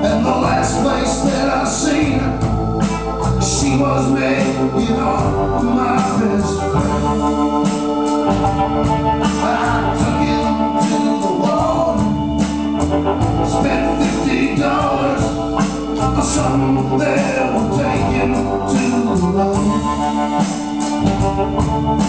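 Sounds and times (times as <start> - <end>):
hollow-body electric guitar: 0.0 - 22.0
sustained organ chords: 0.0 - 22.0
upright bass: 0.0 - 22.0.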